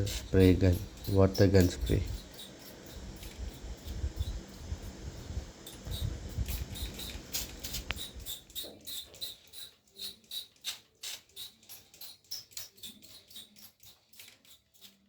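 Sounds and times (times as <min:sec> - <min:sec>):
water spray gun squirting: 0:00.0 - 0:15.0.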